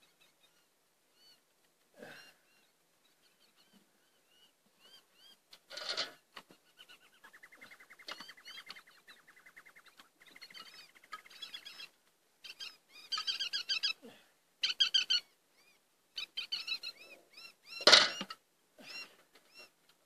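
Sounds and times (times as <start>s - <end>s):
birds chirping: 0.0s - 20.0s
bird trill: 2.1s - 14.0s, 14.6s - 19.8s.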